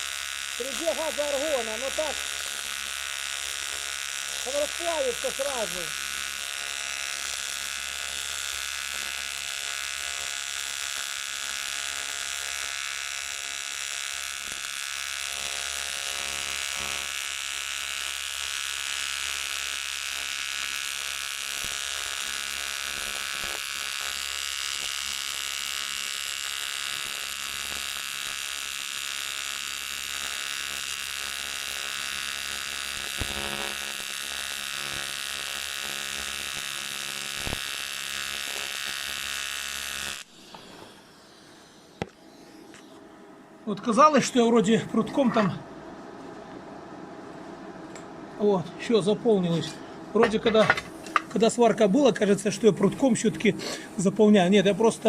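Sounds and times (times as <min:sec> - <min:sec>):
welding arc buzzing: 0:00.0 - 0:55.0.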